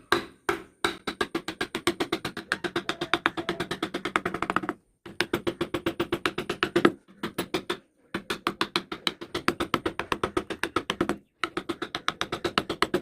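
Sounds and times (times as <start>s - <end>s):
rapid even clicking: 1.0s - 13.0s.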